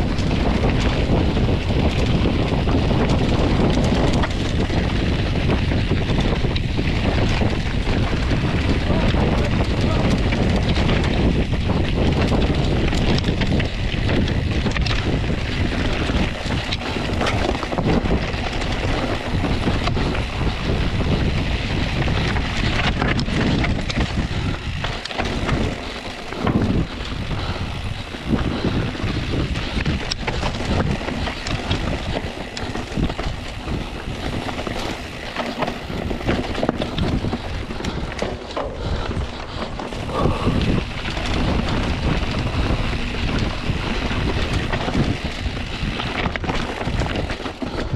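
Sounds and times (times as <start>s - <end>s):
bike rattling over rocky ground: 0.0s - 47.9s
wind buffeting microphone: 0.0s - 47.9s.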